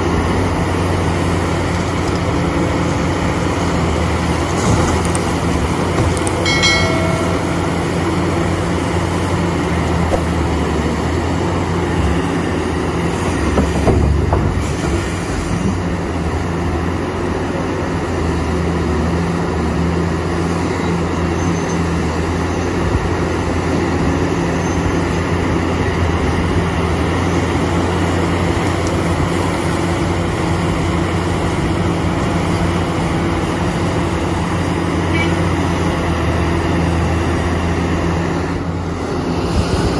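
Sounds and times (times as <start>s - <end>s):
heavy diesel machinery rumbling: 0.0s - 39.9s.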